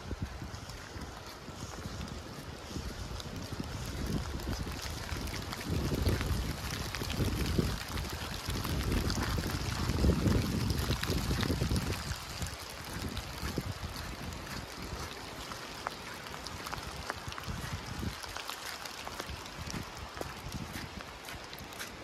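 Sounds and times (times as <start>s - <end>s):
raindrops ticking: 0.0s - 22.0s
steady rain in a forest: 0.0s - 22.0s
wind rumble on microphone: 0.0s - 22.0s.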